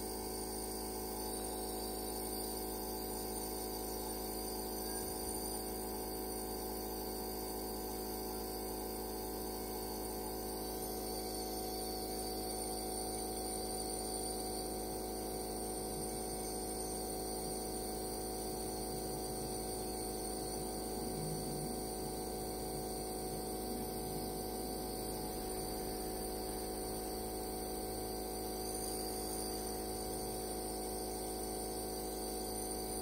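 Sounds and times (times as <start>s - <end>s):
nebulizer compressor humming: 0.0s - 33.0s.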